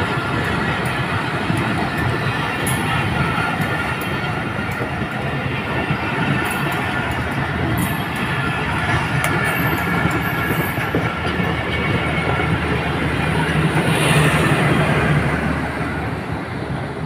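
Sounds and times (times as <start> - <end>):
train coaches rumbling past: 0.0 - 17.0.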